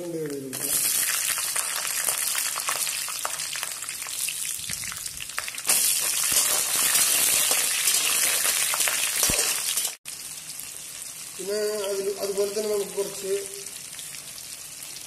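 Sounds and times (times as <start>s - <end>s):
shallots sizzling in oil: 0.2s - 15.0s.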